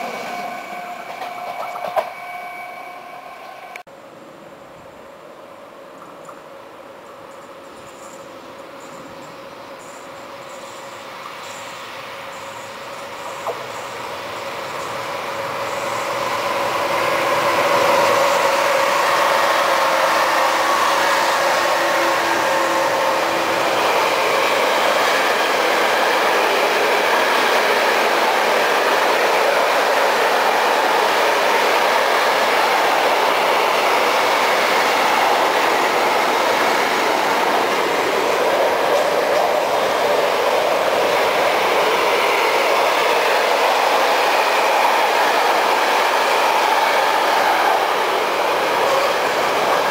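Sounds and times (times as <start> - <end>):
train wheels on rails: 0.0 - 3.9, 5.9 - 49.9
train whine: 0.0 - 49.9.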